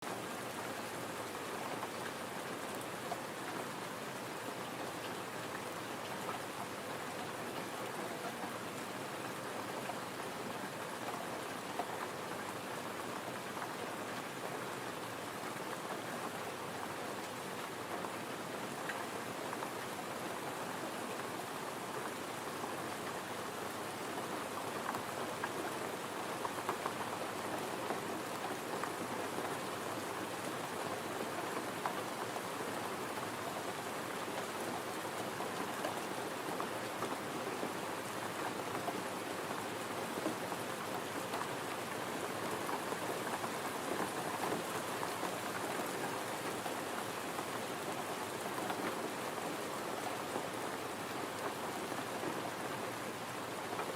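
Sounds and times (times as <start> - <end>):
gentle rain falling: 0.0 - 53.9.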